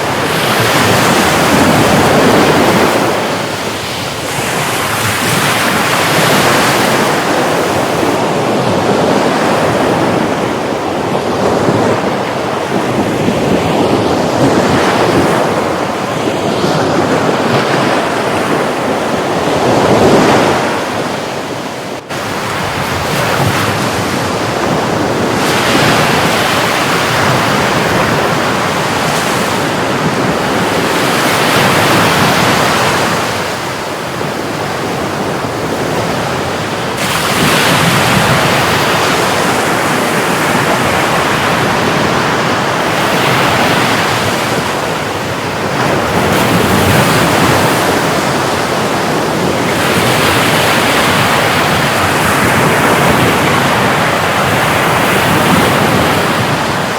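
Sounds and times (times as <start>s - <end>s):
sea surf washing in: 0.0s - 56.9s.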